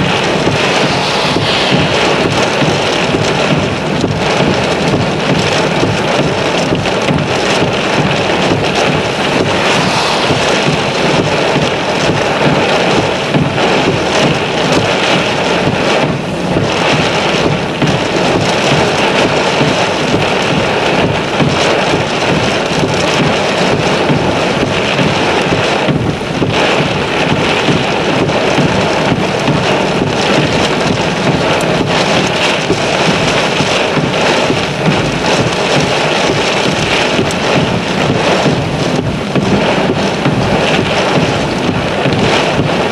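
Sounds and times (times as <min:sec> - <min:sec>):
heavy rain: 0:00.0 - 0:42.9
wind buffeting the microphone: 0:00.0 - 0:42.9.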